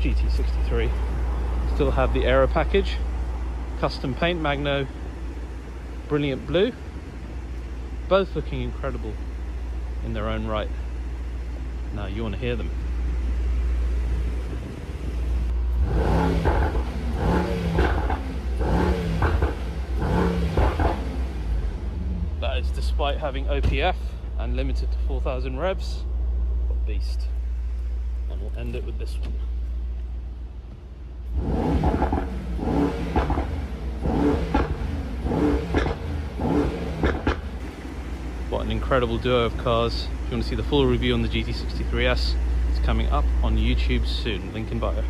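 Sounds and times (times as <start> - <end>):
car engine idling: 0.0 - 45.0
car engine revving: 0.3 - 23.4, 31.2 - 45.0.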